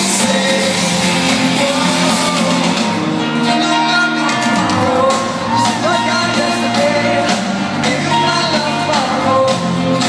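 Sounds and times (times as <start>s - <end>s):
drums: 0.0s - 10.0s
live pop-rock band playing: 0.0s - 10.0s
man singing: 0.0s - 10.0s.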